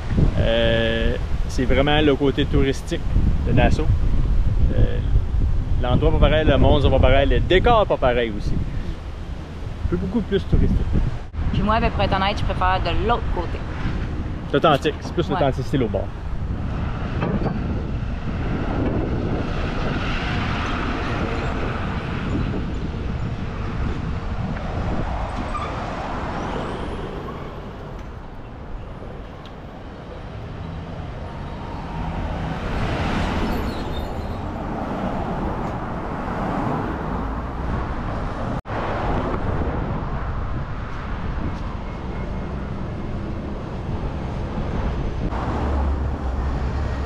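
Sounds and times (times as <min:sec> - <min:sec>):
cars driving past: 0:08.0 - 0:47.0.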